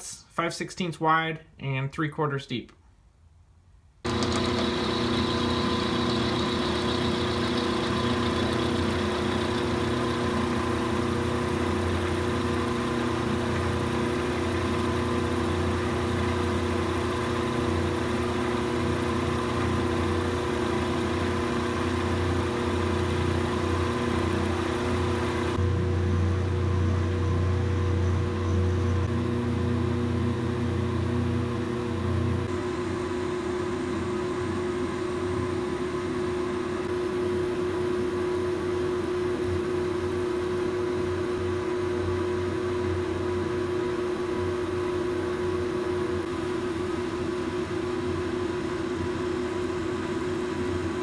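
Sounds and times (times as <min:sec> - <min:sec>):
milling machine motor hum: 0:04.1 - 0:51.0.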